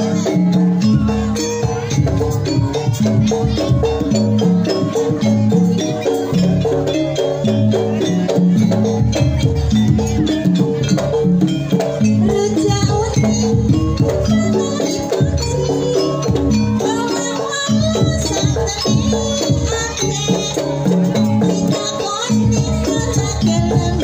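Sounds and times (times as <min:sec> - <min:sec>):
drum and percussion strokes: 0:00.0 - 0:24.0
metallophones ringing melody: 0:00.0 - 0:24.0.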